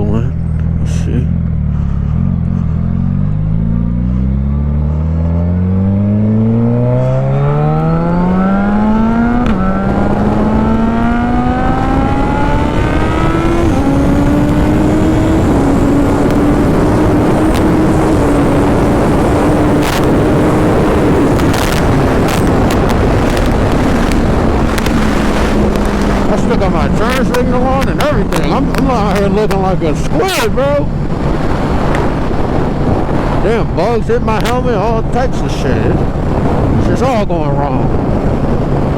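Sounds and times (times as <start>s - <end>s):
motorcycle engine accelerating: 0.0s - 38.9s
wind rushing over microphone: 0.0s - 38.9s.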